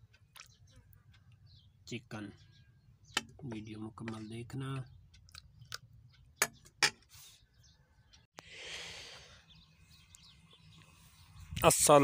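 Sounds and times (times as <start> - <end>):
outdoor air noise: 0.0 - 12.0.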